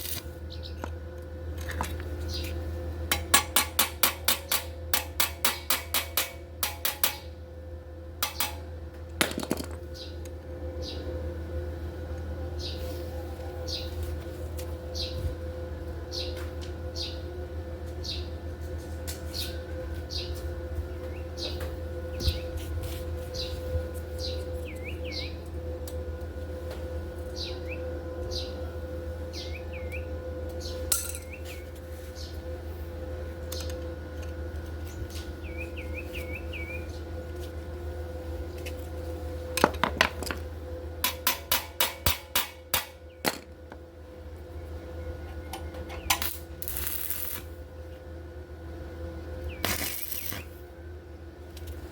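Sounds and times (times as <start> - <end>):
steady background hum: 0.0 - 51.9.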